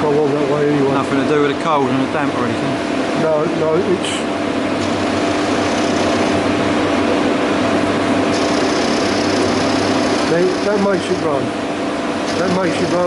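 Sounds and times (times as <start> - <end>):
wire-feed motor humming: 0.0 - 13.0.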